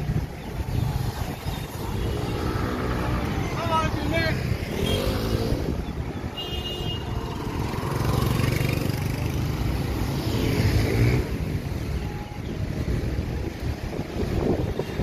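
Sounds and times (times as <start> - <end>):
cars and motorbikes passing: 0.0 - 15.0.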